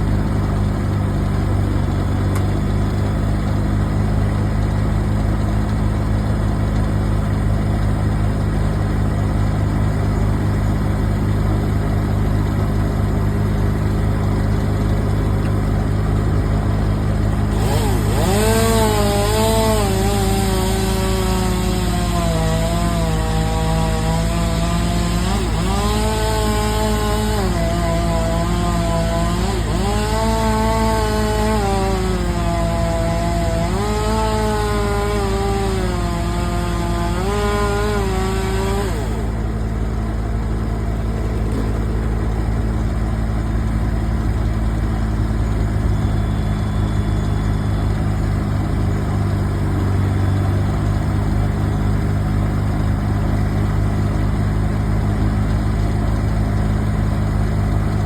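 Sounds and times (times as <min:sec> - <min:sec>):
chainsaw cutting wood: 0:00.0 - 0:58.0
heavy engine idling: 0:00.0 - 0:58.0.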